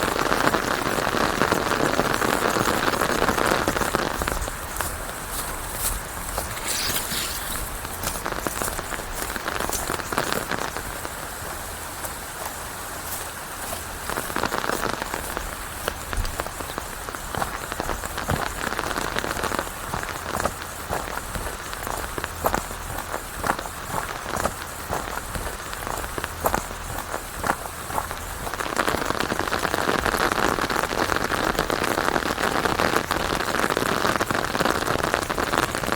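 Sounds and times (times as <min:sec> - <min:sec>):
rain pattering on leaves: 0:00.0 - 0:35.9.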